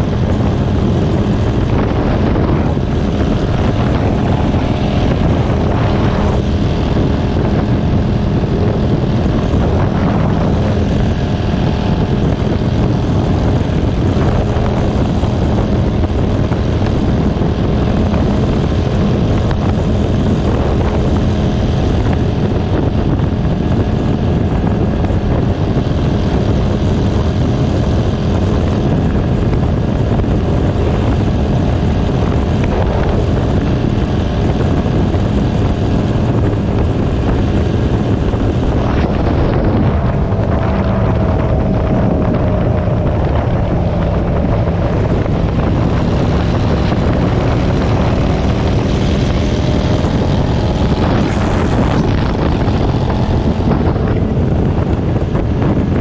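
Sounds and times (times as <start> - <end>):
engine drone: 0.0 - 56.0
rushing noise: 0.0 - 56.0.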